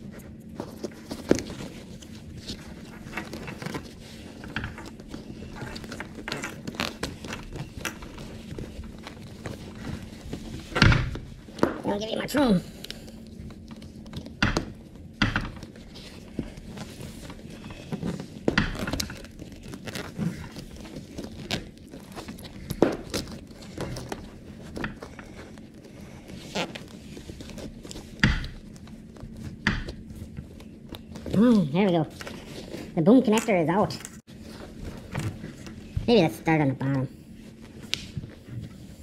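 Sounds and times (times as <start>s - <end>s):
fabric and plastic rustling: 0.0s - 39.0s.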